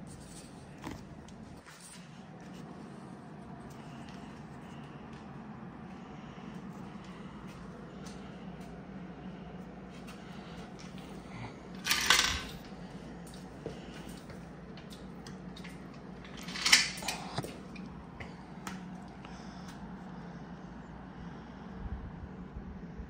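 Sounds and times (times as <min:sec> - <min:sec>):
air conditioner hum: 0:00.0 - 0:23.0.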